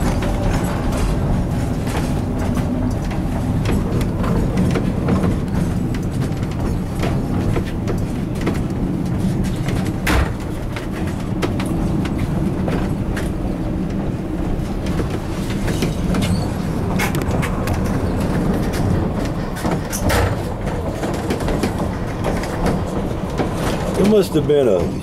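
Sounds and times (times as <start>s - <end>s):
train wheels clacking: 0.0s - 25.0s
train wheels rumbling on rail: 0.0s - 25.0s.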